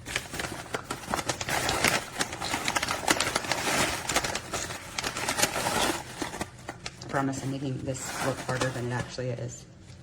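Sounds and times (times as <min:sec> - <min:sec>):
plastic pouch rustling: 0:00.0 - 0:09.3.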